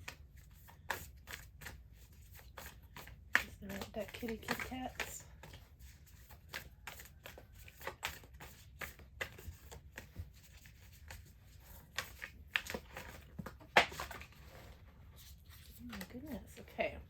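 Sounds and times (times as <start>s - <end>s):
cards being shuffled: 0.0s - 14.5s, 15.1s - 16.6s.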